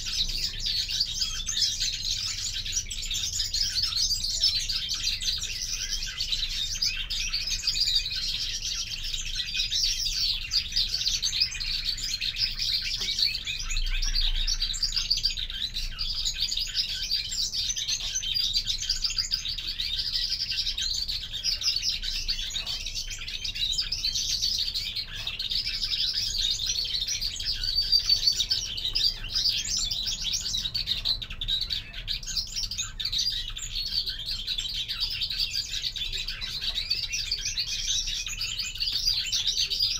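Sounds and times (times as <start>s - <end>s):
finches twittering and chirping: 0.0s - 39.9s.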